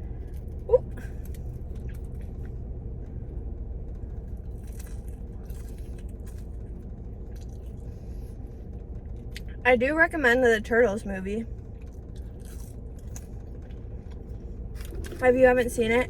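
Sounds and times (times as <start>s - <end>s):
faint hum: 0.0s - 16.0s
low rumble: 0.0s - 16.0s.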